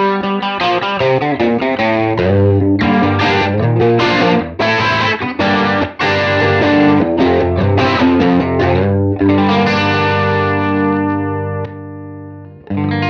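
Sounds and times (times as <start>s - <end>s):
electric guitar with chorus and overdrive: 0.0s - 13.0s.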